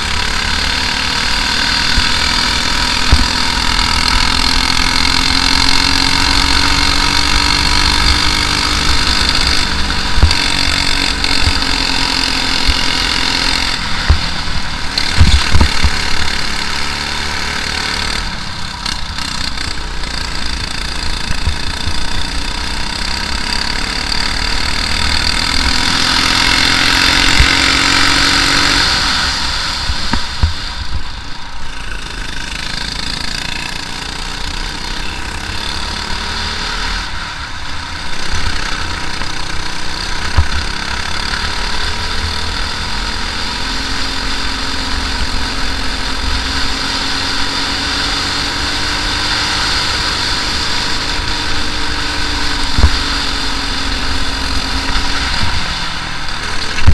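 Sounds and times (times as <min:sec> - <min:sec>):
kart engine racing: 0:00.0 - 0:56.9.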